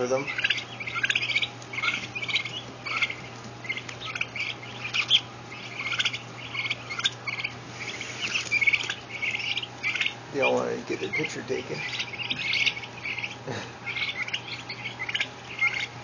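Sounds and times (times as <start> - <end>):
faint low hum: 0.0 - 16.0
turkey poults peeping: 0.0 - 16.0.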